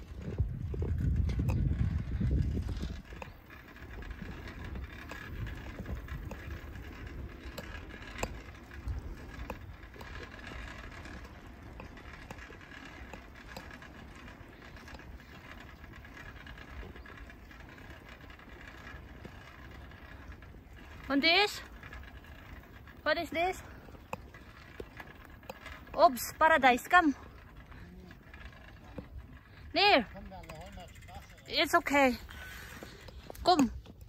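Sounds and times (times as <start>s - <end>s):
bicycle riding rumble: 0.0s - 34.0s
small clicks and rattles: 0.0s - 34.0s.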